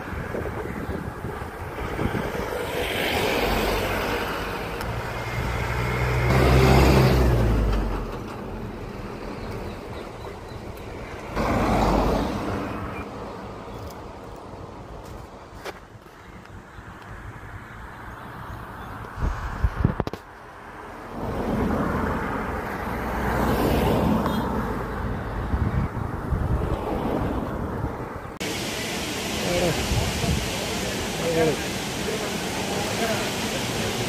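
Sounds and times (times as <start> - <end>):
vehicles passing by: 0.0 - 34.0.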